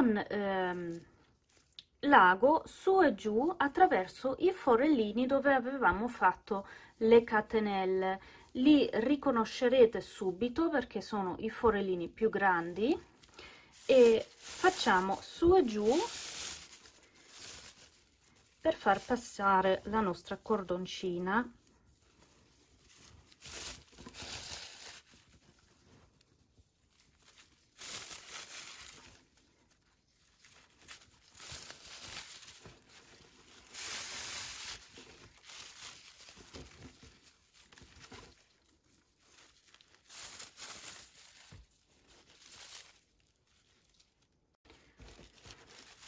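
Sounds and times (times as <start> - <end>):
raffia yarn crinkling and rustling: 0.0 - 46.0.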